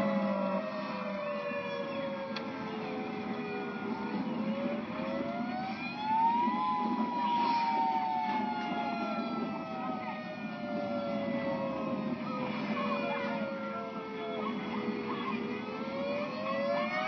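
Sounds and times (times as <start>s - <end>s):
tornado warning siren: 0.0s - 17.0s.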